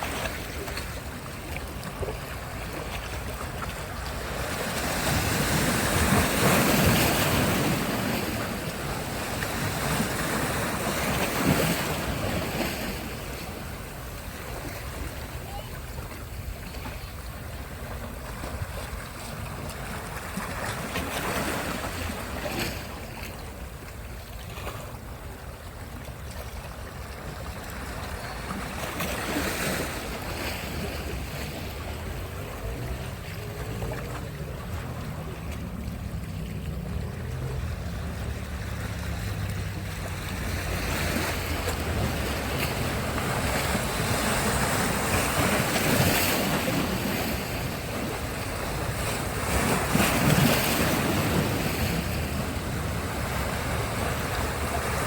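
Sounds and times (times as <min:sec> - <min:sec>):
waves washing onto beach: 0:00.0 - 0:55.0.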